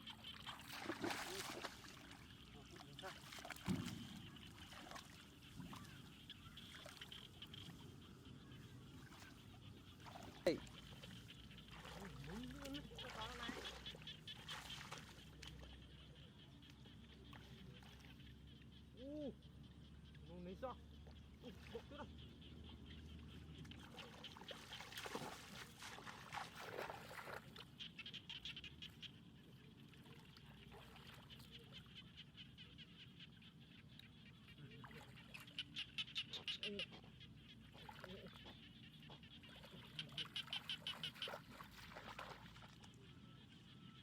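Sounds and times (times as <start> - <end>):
frogs pulsing calls: 0.0 - 44.0.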